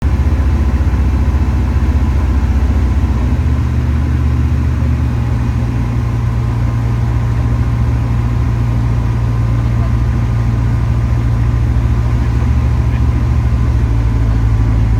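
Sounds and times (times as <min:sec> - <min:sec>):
propeller aircraft engine droning: 0:00.0 - 0:14.9.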